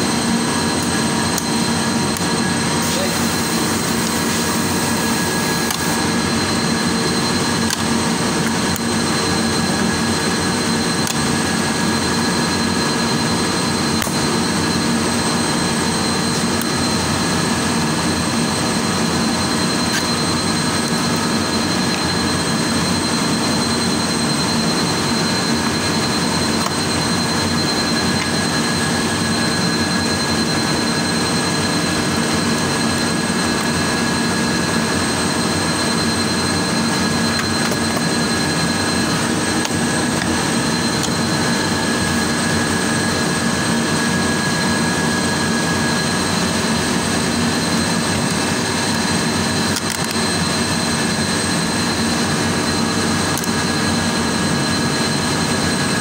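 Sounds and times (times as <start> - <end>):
high-pitched whines: 0.0 - 56.0
loud machinery drone: 0.0 - 56.0.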